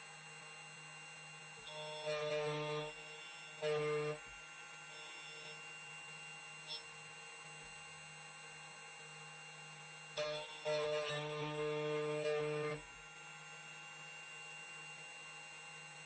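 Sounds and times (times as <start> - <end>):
key cutting machine whine: 0.0 - 16.0.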